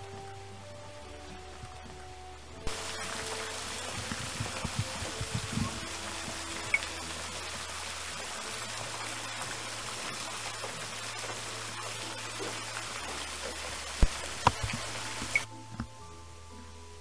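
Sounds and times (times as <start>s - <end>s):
water trickling into a pond: 0.0s - 15.5s.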